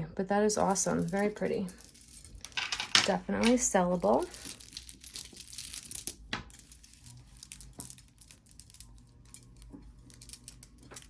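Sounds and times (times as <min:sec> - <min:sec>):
beads and metal clinking: 0:00.6 - 0:11.0.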